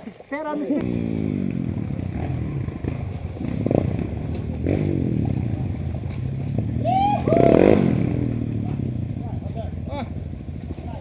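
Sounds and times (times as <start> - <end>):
dirt bike engine idling: 0.8 - 11.0.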